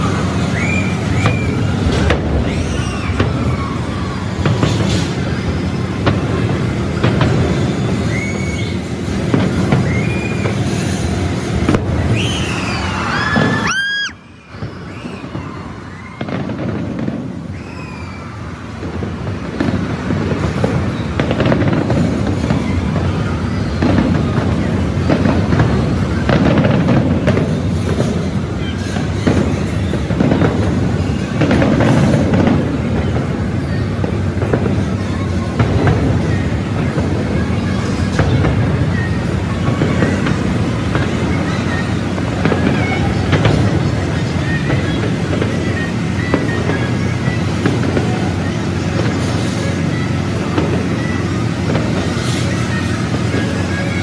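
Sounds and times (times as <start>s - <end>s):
fireworks booming: 0.0s - 54.0s
sharp firework cracks: 0.0s - 54.0s.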